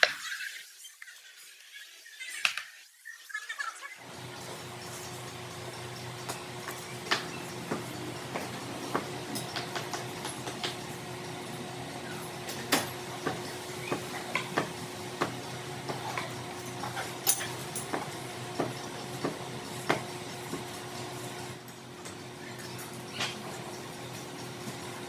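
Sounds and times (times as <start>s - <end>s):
machine hum: 4.0s - 25.0s.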